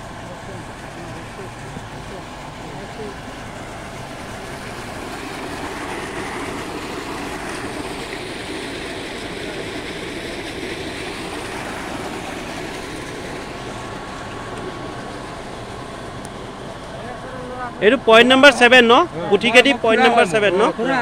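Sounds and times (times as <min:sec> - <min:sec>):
water gushing from pipe: 0:00.0 - 0:21.0.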